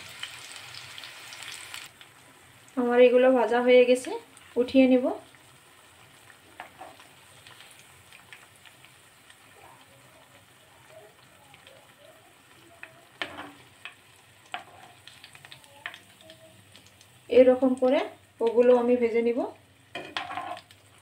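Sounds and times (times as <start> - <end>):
fritters sizzling in hot oil: 0.0 - 21.0.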